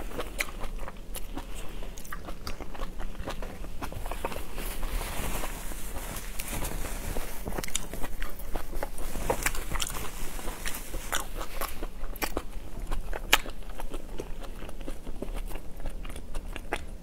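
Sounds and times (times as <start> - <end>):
mouth chewing and crunching: 0.0 - 17.0.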